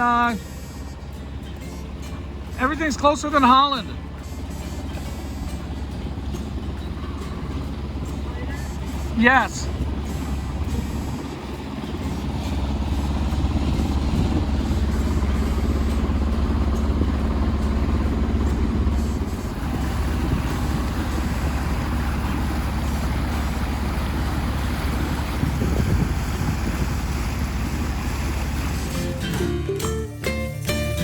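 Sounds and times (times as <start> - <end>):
wind and water rushing: 0.0 - 29.8
boat engine humming: 0.0 - 31.0.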